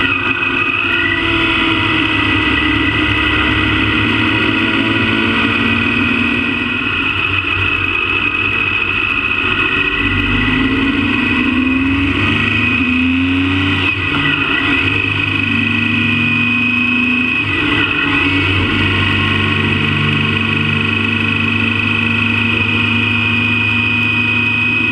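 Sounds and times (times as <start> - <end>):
motorcycle engine accelerating: 0.0 - 24.9
steady high whine: 0.0 - 24.9.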